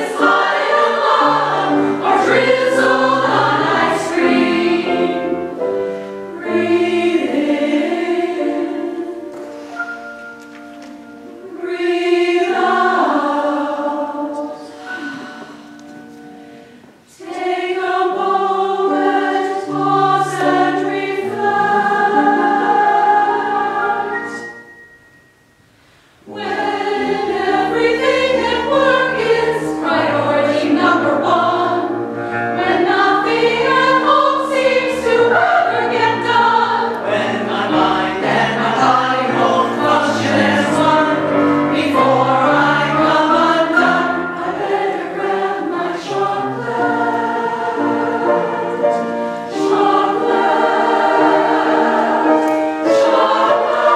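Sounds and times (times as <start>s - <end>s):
women's choir singing: 0.0s - 9.7s, 11.2s - 24.6s, 26.2s - 53.9s.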